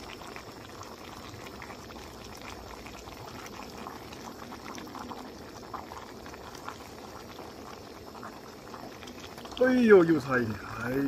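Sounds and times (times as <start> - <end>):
sauce bubbling in pot: 0.0 - 11.0.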